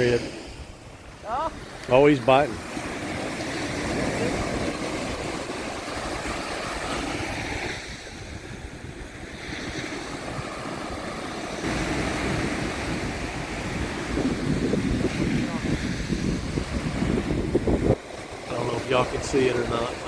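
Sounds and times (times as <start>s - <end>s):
surf washing onto beach: 0.0s - 20.0s
wind buffeting microphone: 0.0s - 20.0s.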